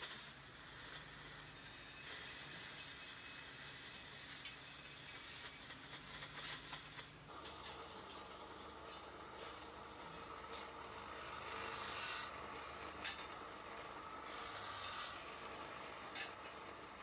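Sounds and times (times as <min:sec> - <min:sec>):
grinding wheel on steel tubes: 0:00.0 - 0:17.0.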